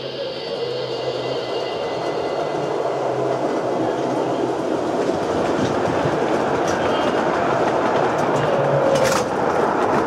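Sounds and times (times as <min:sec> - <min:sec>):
train wheels rolling on rails: 0:00.0 - 0:10.0.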